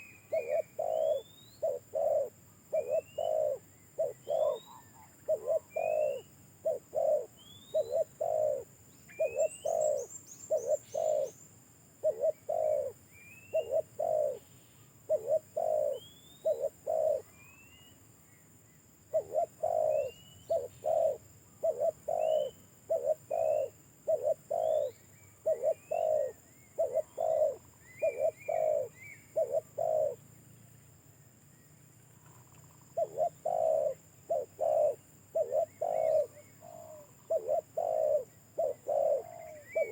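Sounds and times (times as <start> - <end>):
dove cooing: 0.0 - 11.4, 12.0 - 17.5, 19.0 - 30.3, 32.2 - 39.9
small birds chirping: 0.0 - 39.9.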